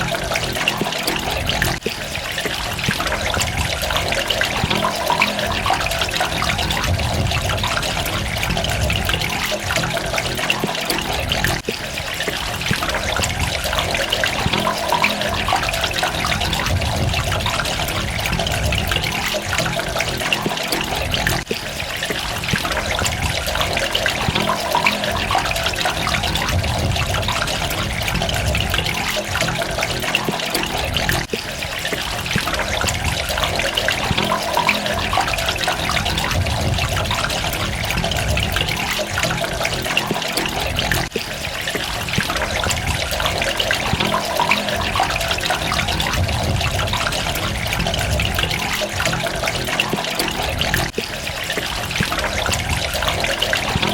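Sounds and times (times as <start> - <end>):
running splashing water: 0.0 - 53.9.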